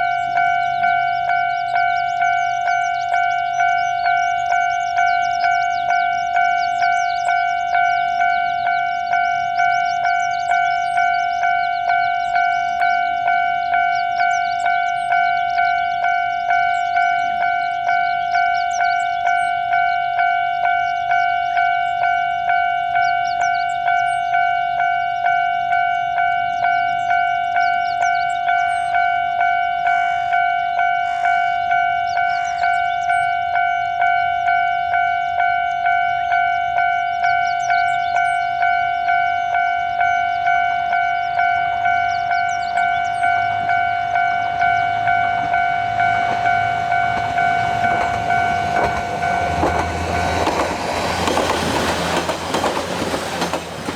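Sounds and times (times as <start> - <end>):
railroad crossing bell ringing: 0.0 - 53.9.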